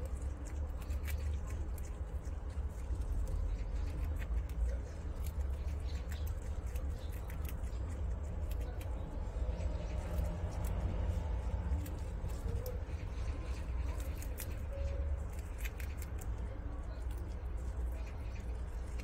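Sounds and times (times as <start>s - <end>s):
animal chewing grass: 0.0s - 19.0s
low hum: 0.0s - 19.0s.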